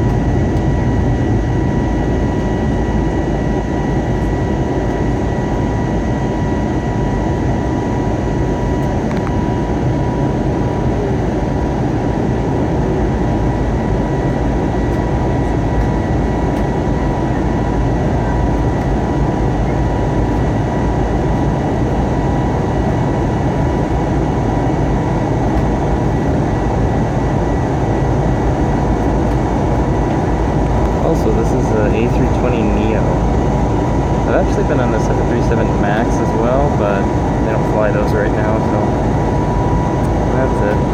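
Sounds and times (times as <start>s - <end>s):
jet engines and airflow rushing: 0.0s - 40.9s
steady high hum: 0.0s - 40.9s.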